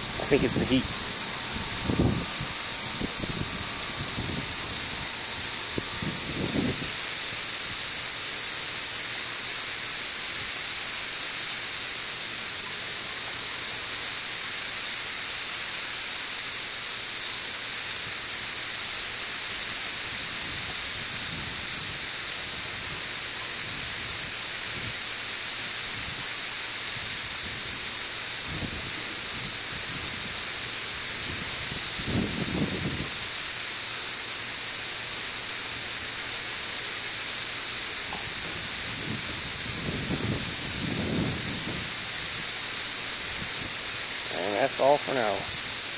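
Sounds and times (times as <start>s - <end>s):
cicadas chorus hissing: 0.0s - 45.9s.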